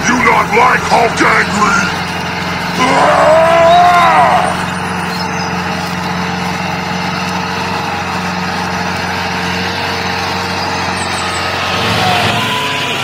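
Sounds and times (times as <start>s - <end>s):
small tractor motor humming: 0.0s - 13.0s.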